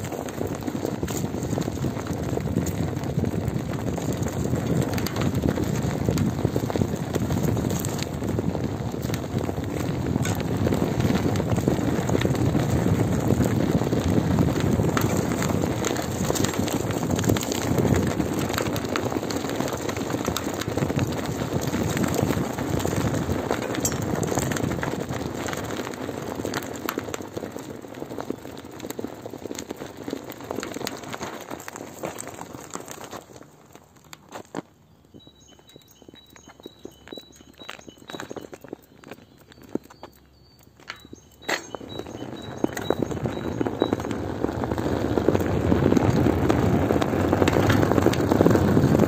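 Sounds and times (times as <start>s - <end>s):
bike clicks and rattles: 0.0s - 49.0s
bike tyre crunching gravel: 0.0s - 49.0s.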